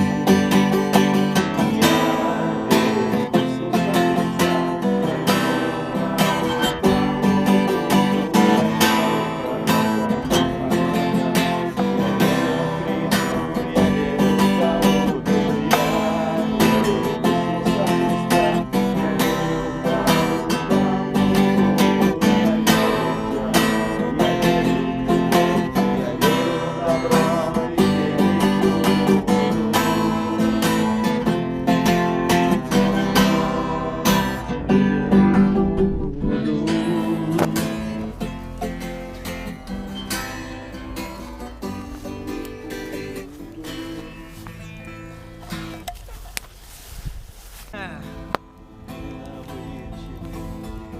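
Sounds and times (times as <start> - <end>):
acoustic guitar strumming: 0.0 - 50.9.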